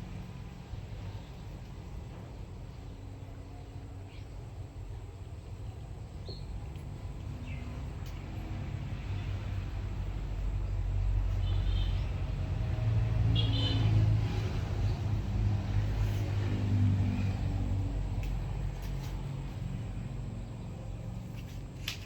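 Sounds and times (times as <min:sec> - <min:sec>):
passing vehicle rumble: 0:00.0 - 0:22.0.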